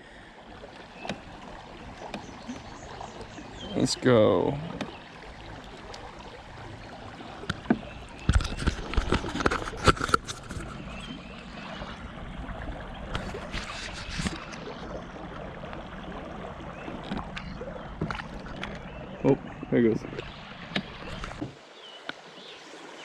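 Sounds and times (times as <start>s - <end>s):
running river water: 0.0s - 23.0s
knocks and clatter on kayak: 0.7s - 21.6s.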